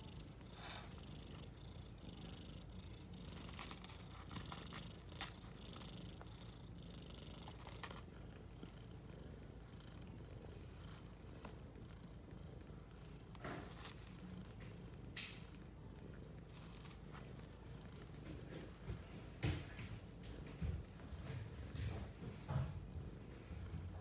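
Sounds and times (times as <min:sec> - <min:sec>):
cats purring: 0:00.0 - 0:24.0.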